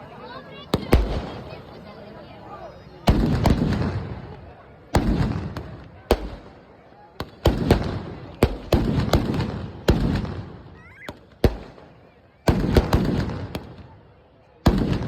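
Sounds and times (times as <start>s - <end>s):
firecrackers banging: 0.6s - 1.8s, 3.0s - 15.0s.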